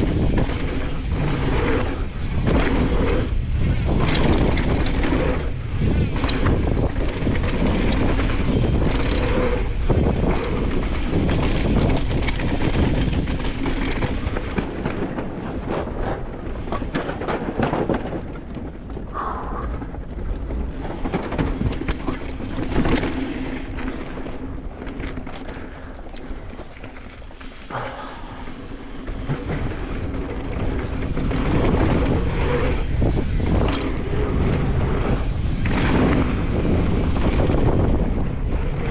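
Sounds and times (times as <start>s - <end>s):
bike rattling over bumps: 0.0s - 38.9s
bike tyres on hard-packed dirt: 0.0s - 38.9s
wind rumbling on microphone: 0.0s - 38.9s.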